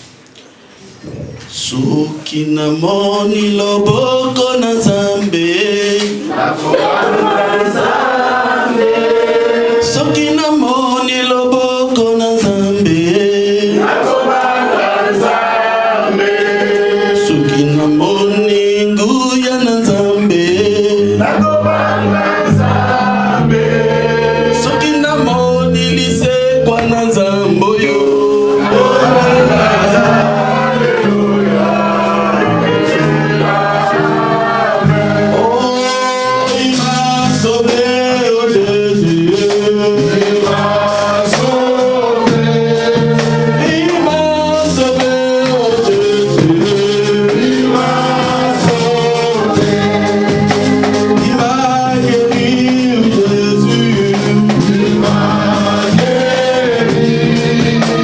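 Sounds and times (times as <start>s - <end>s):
instrumental accompaniment: 0.1s - 58.0s
gospel singing: 0.8s - 58.0s
percussion: 3.2s - 58.0s.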